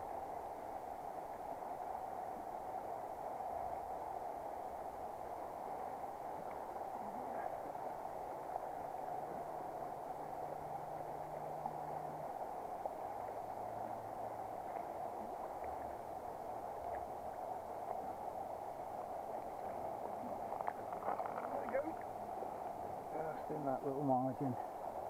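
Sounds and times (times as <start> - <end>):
river flowing over stones: 0.0 - 25.0.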